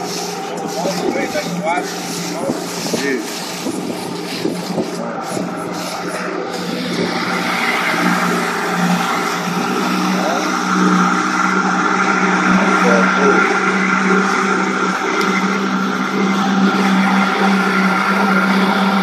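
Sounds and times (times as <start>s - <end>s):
outboard motor droning: 0.0s - 19.0s
water churning: 0.0s - 19.0s.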